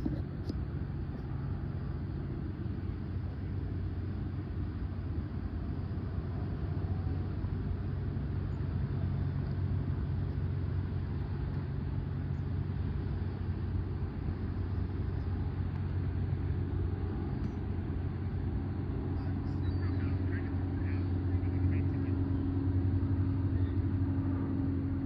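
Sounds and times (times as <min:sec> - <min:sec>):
propeller plane droning overhead: 0:00.0 - 0:25.0.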